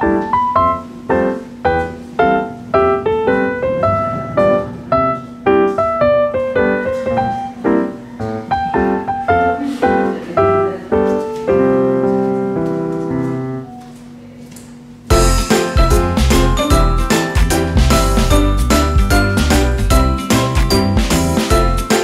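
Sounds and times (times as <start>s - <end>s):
gentle piano music: 0.0s - 14.2s, 15.1s - 22.0s.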